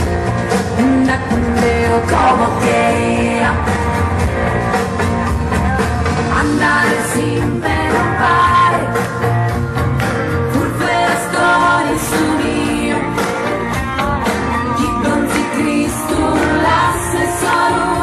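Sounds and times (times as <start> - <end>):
pop-rock music with singing: 0.0 - 18.0.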